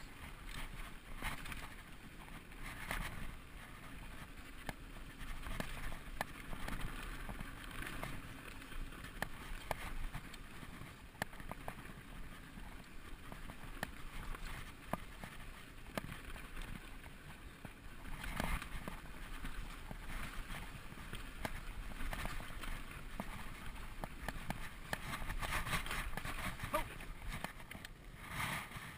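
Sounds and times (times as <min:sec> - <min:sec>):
bike clicks and rattles: 0:00.0 - 0:28.9
bike tyres rolling over stones: 0:00.0 - 0:28.9.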